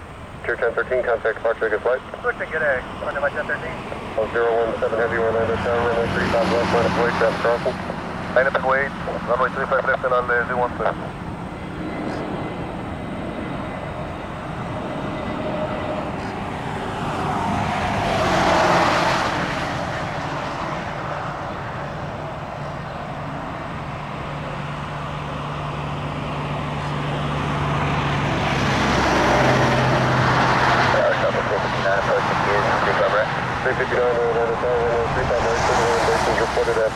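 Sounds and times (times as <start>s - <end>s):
road vehicles passing: 0.0s - 36.9s.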